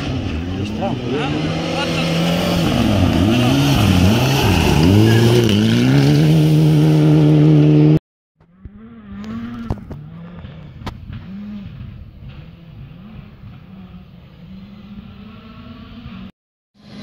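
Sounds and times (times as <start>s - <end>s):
distant engine revving: 0.0s - 17.0s
rally car engine revving: 0.0s - 17.0s.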